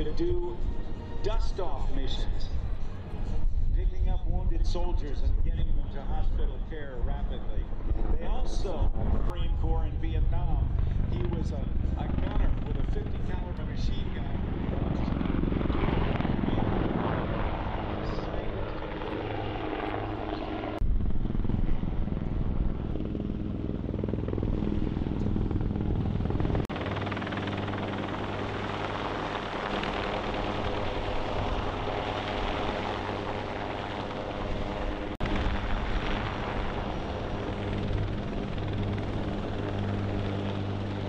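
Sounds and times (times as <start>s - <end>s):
helicopters flying past: 0.0s - 41.0s.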